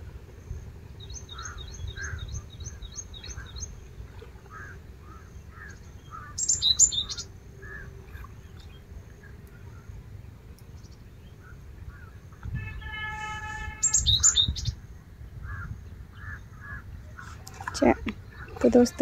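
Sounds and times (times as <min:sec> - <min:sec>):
small birds chirping: 0:00.4 - 0:13.0, 0:13.6 - 0:19.0.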